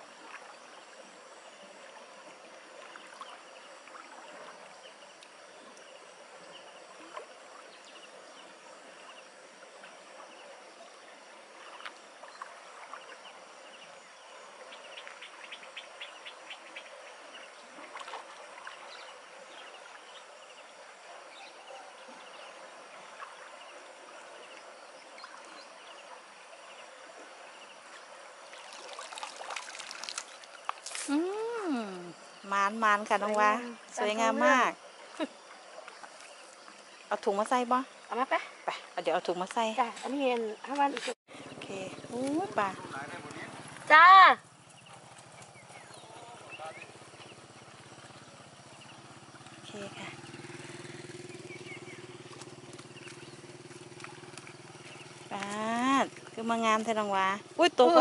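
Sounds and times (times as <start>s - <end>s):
water splashing and dripping: 0.0s - 10.5s, 11.2s - 21.4s, 22.0s - 58.0s
insects: 0.0s - 58.0s.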